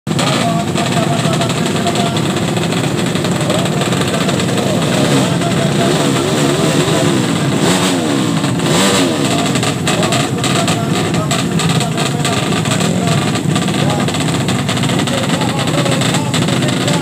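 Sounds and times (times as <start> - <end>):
motorcycle engine revving: 0.1 - 17.0.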